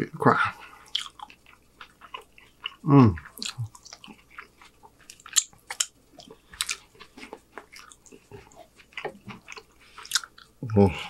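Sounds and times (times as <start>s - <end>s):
person chewing food: 0.6s - 11.0s.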